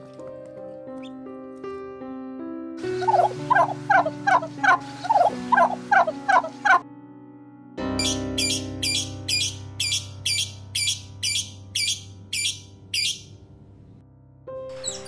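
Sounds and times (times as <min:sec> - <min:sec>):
soft keyboard music: 0:00.0 - 0:15.0.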